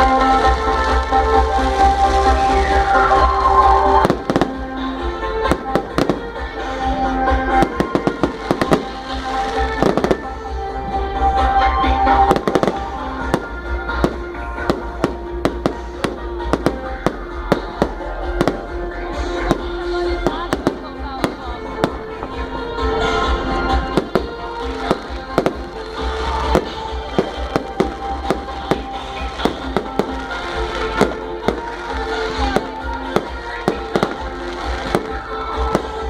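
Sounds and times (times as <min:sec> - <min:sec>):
fireworks cracking and popping: 0:00.0 - 0:36.0
music playing: 0:00.0 - 0:36.0.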